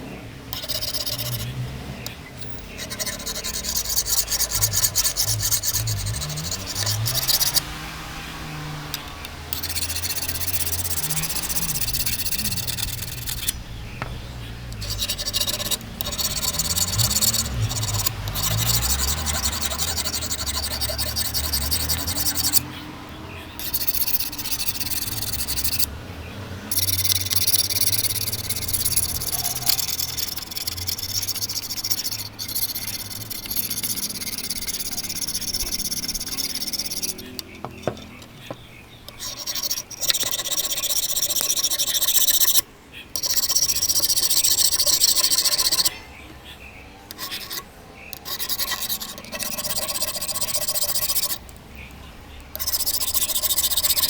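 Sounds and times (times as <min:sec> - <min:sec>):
file rasping on steel blade: 0:00.5 - 0:08.0, 0:08.9 - 0:13.6, 0:14.7 - 0:22.8, 0:23.6 - 0:25.9, 0:26.7 - 0:42.6, 0:43.2 - 0:46.0, 0:47.1 - 0:51.6, 0:52.5 - 0:54.0.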